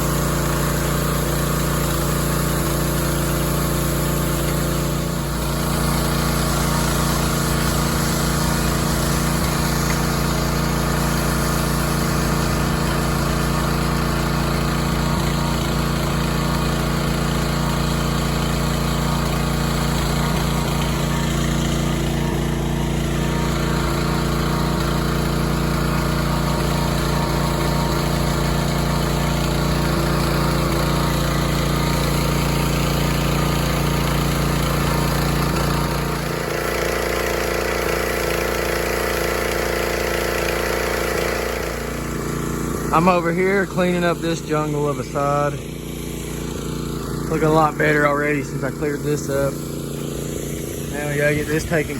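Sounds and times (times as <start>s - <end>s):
high water hiss: 0.0s - 51.9s
pressure washer engine drone: 0.0s - 51.9s.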